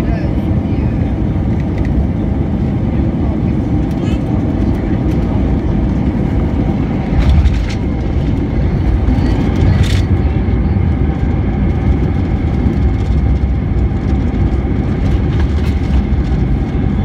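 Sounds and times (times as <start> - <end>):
airliner wheels and engines rumbling: 0.0 - 17.0.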